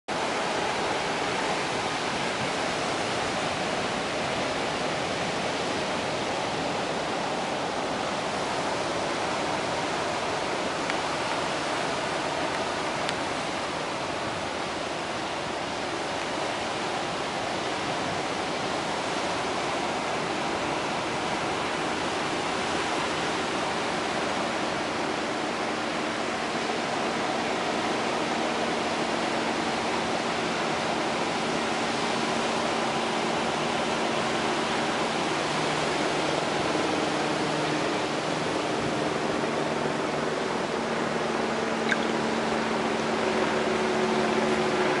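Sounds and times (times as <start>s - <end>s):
surf washing onto rocks: 0.1s - 45.0s.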